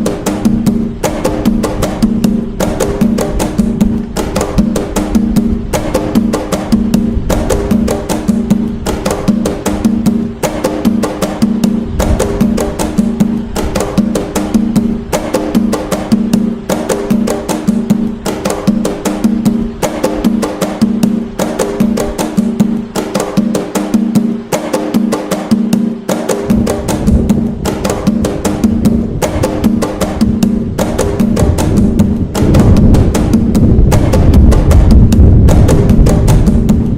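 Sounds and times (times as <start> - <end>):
hand drums playing fast rhythm: 0.0 - 36.9.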